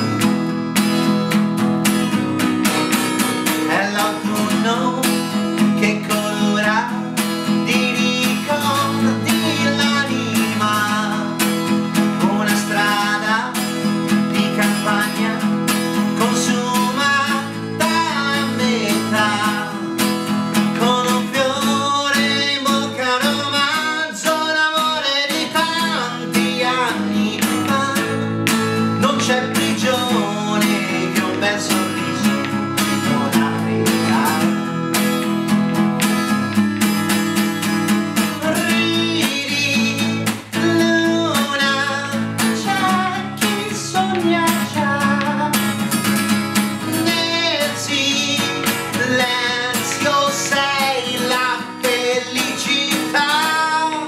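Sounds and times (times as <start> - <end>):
acoustic guitar strumming: 0.0 - 54.0
man singing: 2.1 - 54.0.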